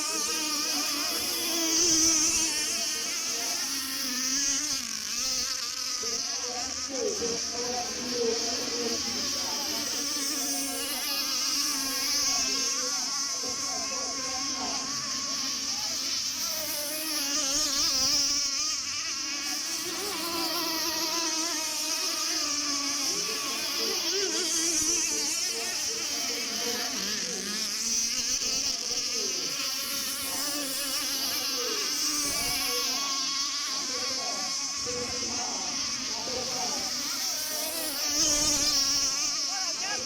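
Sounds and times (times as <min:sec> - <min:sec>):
model boat engines buzzing: 0:00.0 - 0:40.0.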